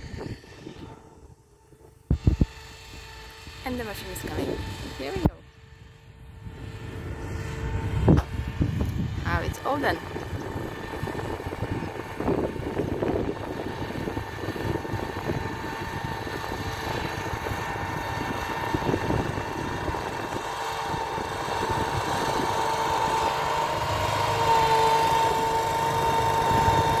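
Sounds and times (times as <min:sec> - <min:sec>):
tulip-topping machine engine hum: 0:00.0 - 0:27.0.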